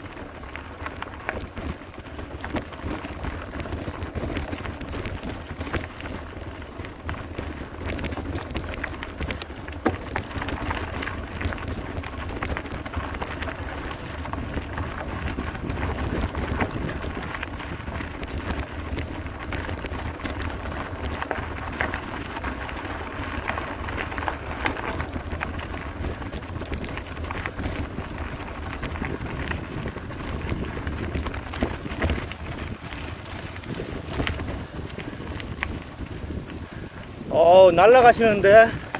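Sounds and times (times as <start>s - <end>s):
bike frame rattle: 0.0s - 38.9s
tyre rumble: 0.0s - 38.9s
wind buffeting microphone: 0.0s - 38.9s.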